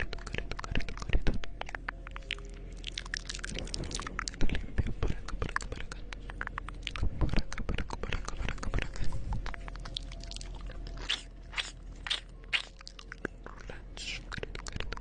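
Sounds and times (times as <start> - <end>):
wet lip and tongue clicks: 0.0 - 15.0.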